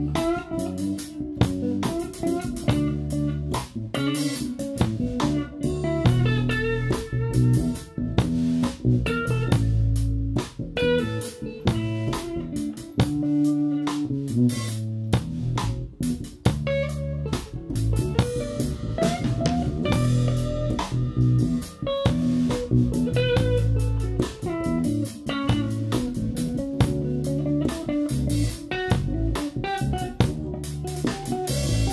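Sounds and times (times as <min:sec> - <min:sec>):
drum kit with cymbal strikes: 0:00.0 - 0:31.9
electric bass: 0:00.0 - 0:31.9
electric guitar: 0:00.0 - 0:31.9.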